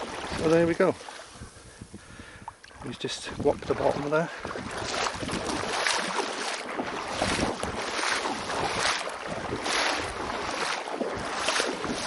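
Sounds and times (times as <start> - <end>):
water sloshing on rocky shore: 0.0 - 1.8, 2.5 - 12.0
wind buffeting microphone: 0.0 - 12.0.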